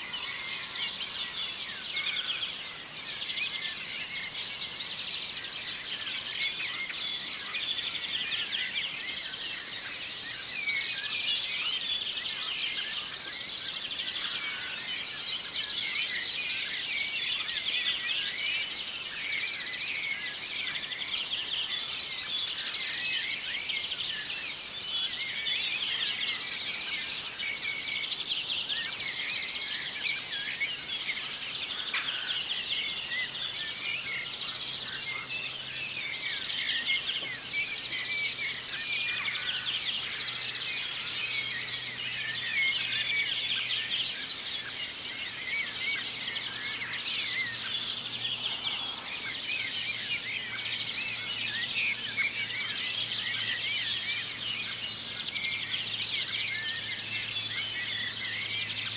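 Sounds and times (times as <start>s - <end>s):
songbirds chorus: 0.0s - 58.9s.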